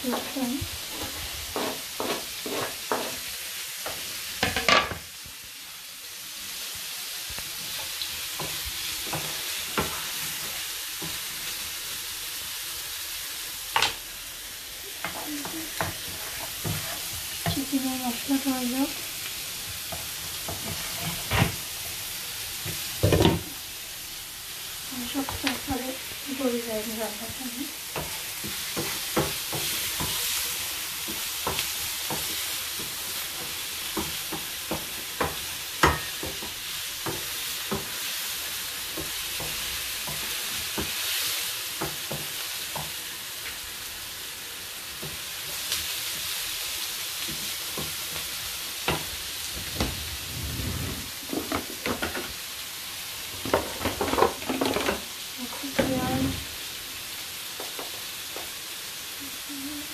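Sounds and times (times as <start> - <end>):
vegetables sizzling in frying pan: 0.0 - 59.9.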